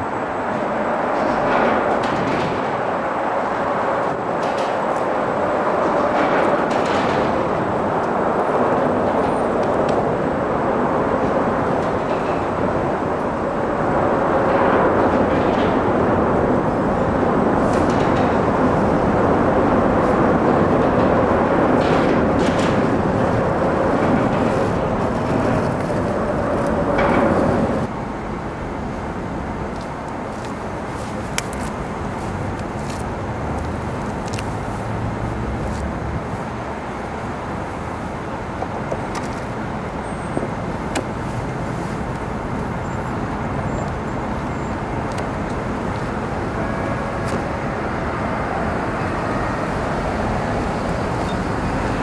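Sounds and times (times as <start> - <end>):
city street traffic: 0.0 - 52.0
elevated train rumbling and whining: 0.0 - 52.0.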